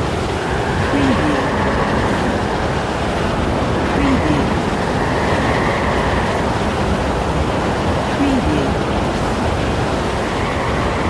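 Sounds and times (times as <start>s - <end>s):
strong wind rushing: 0.0s - 11.0s.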